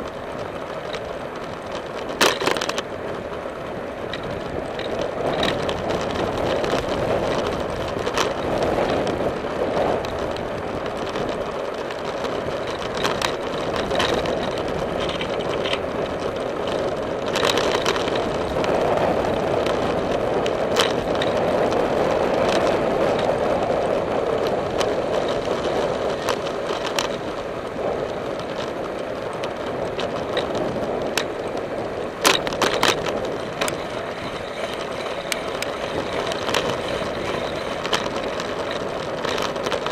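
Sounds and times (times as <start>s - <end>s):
bicycle clicks and rattles: 0.0s - 39.9s
wind and tyre noise: 0.0s - 39.9s.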